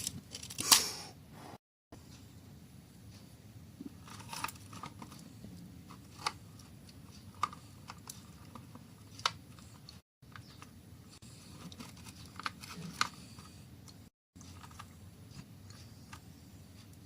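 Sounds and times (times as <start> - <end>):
low steady hum: 1.2 - 17.0.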